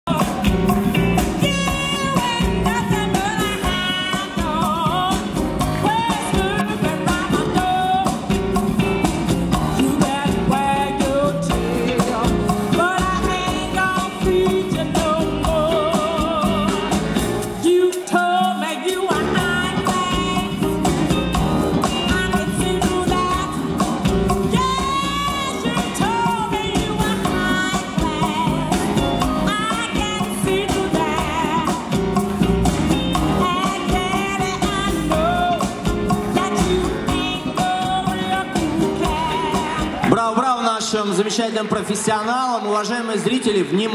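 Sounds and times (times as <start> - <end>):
person singing: 0.0 - 40.6
cha-cha-cha dance music: 0.0 - 43.9.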